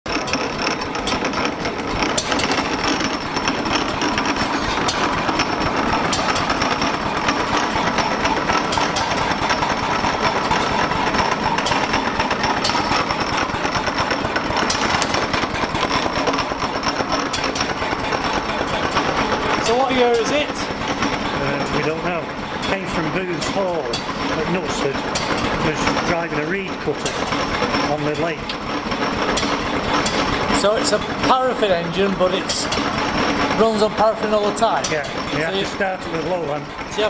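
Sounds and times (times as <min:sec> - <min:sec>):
oil engine running: 0:00.0 - 0:37.0.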